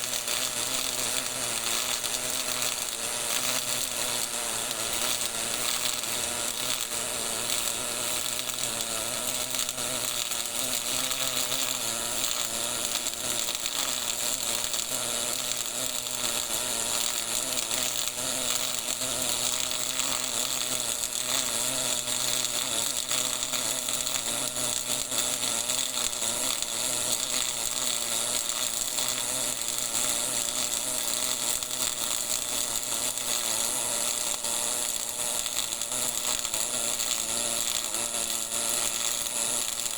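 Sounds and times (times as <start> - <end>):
welding arc crackling buzz: 0.0 - 39.9.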